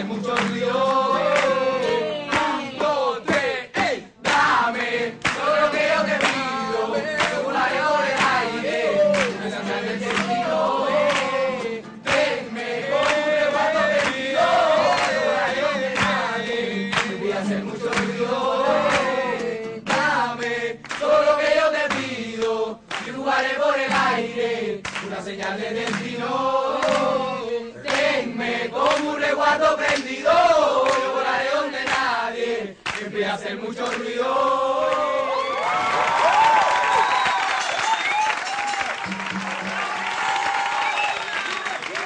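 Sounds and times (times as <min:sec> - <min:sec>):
acoustic guitar: 0:00.0 - 0:35.6, 0:37.0 - 0:41.7
young voices singing in chorus: 0:00.0 - 0:35.6.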